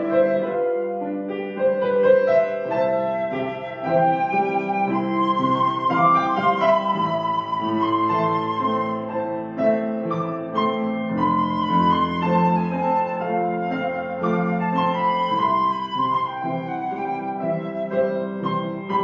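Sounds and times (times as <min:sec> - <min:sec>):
flute melody of held notes: 0:00.0 - 0:19.0
grand piano accompaniment: 0:00.0 - 0:19.0.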